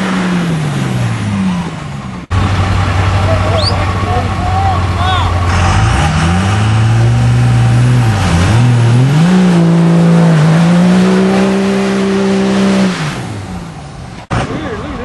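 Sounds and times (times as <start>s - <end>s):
diesel pickup engine revving: 0.0s - 15.0s
tire and exhaust noise: 0.0s - 15.0s.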